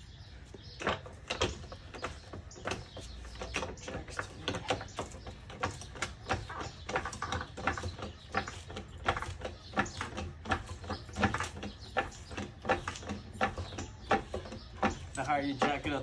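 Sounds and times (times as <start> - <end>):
car jack clicking and creaking: 0.0 - 16.0.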